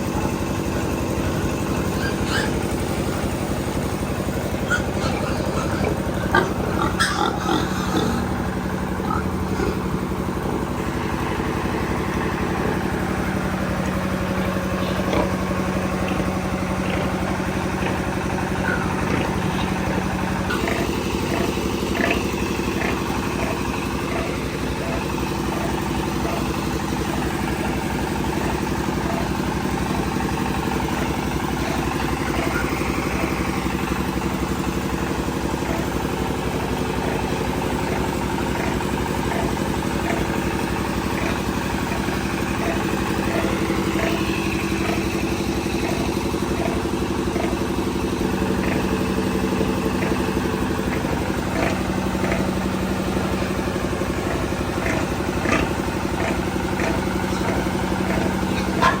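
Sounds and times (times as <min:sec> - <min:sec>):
motor humming with pulsing tick: 0:00.0 - 0:59.0.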